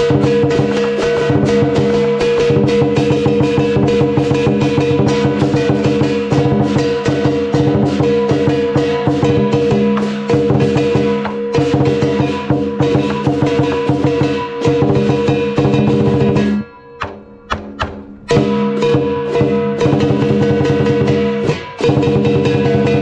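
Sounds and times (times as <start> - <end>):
clashing cymbals: 0.0 - 23.0
drum beaten in fast strokes: 0.0 - 23.0
ringing gong: 0.0 - 23.0.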